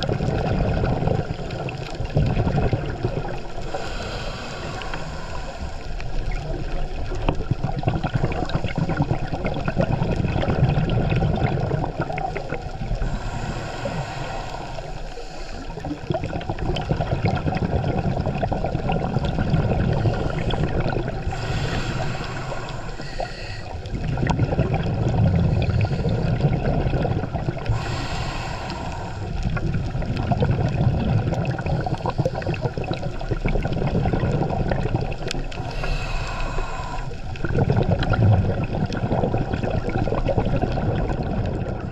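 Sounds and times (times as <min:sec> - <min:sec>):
diver's bubbles gurgling underwater: 0:00.0 - 0:41.9.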